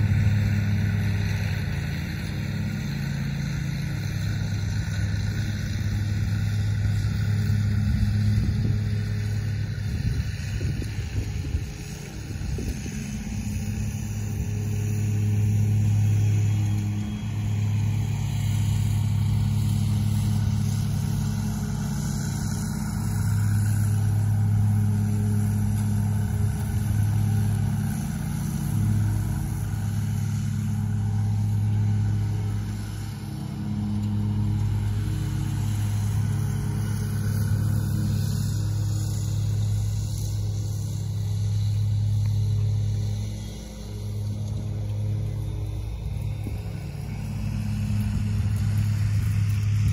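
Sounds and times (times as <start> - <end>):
lawn mower engine droning: 0.0 - 49.9.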